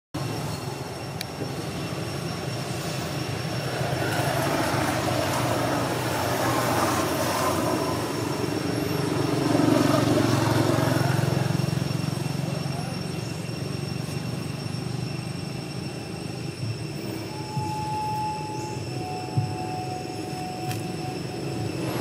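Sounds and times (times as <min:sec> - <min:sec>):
traffic engine rumble: 0:00.1 - 0:22.0.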